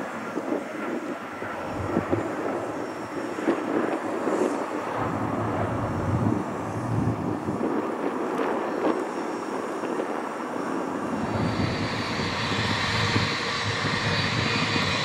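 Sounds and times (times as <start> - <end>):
jet airliner landing: 0.0 - 15.0.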